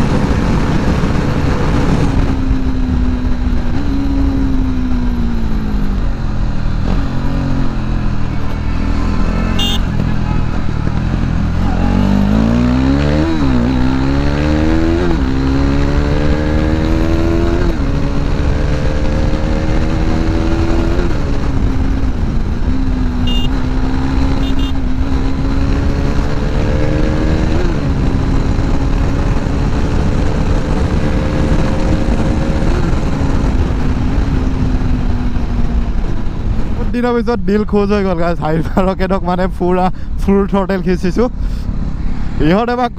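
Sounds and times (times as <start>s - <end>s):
wind noise on microphone: 0.0s - 36.9s
motorcycle engine revving: 0.0s - 37.0s.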